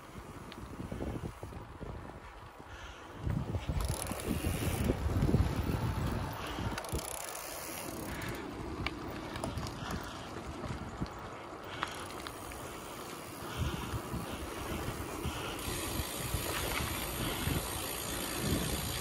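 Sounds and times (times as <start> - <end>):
bicycle tyres on gravel: 0.0 - 19.0
wind buffeting microphone: 0.0 - 19.0.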